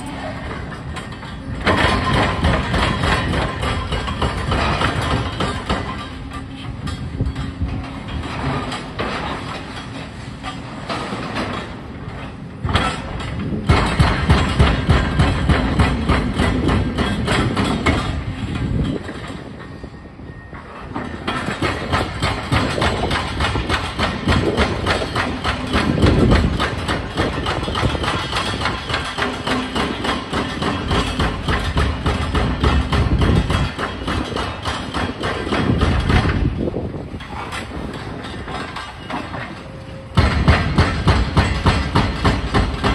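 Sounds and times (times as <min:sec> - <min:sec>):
clattering concrete debris: 0:00.0 - 0:19.7, 0:20.7 - 0:42.9
clanking and crunching rubble: 0:00.0 - 0:42.9.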